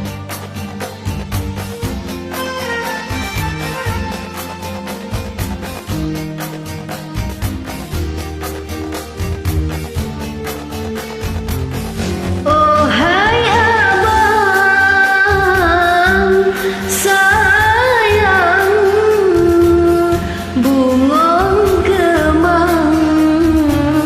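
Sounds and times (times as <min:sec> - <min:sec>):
karaoke backing track: 0:00.0 - 0:24.0.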